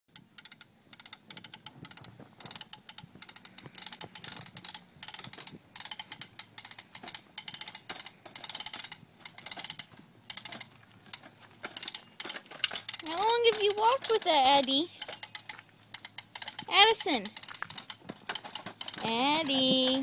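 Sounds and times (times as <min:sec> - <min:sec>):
push toy clicking and rattling: 0:00.1 - 0:20.0.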